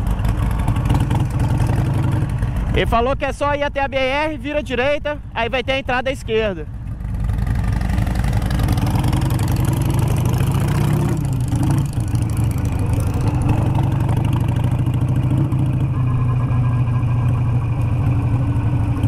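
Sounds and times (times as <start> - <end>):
motorcycle engine running: 0.0 - 3.2, 6.7 - 19.0.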